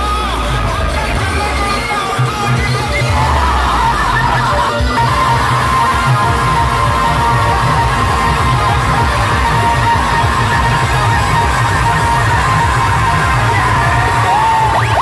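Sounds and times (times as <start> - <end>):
crowd yelling: 0.0 - 15.0
fast pounding drums: 0.0 - 15.0
held electronic melody note: 0.0 - 15.0.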